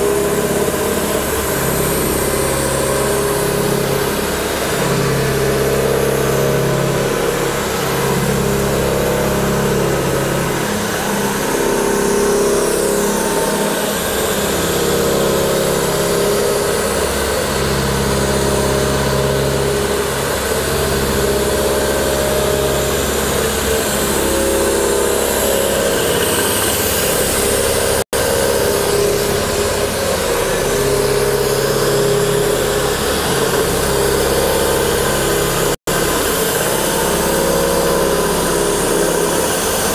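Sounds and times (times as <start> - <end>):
boring mill machine hum: 0.0 - 39.9.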